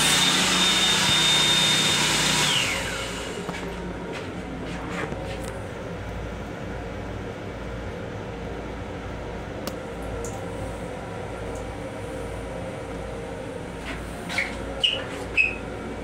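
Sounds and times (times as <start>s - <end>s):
faint steady hum: 2.5s - 16.0s.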